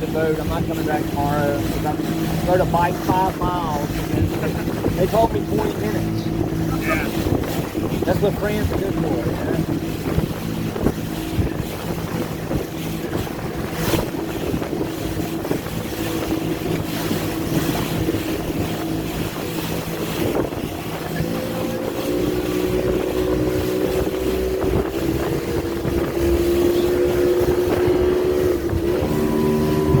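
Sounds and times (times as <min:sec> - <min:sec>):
motorboat engine running: 0:00.0 - 0:30.0
wind buffeting microphone: 0:00.0 - 0:30.0.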